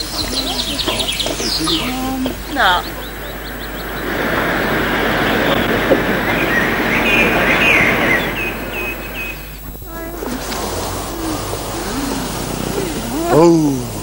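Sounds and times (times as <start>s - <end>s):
birds chirping: 0.0s - 14.0s
steady rushing noise: 0.0s - 14.0s.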